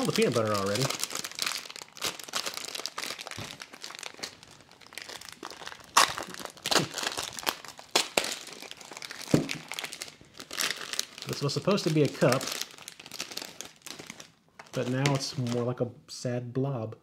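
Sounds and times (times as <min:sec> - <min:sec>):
plastic wrappers crinkling: 0:00.0 - 0:15.8.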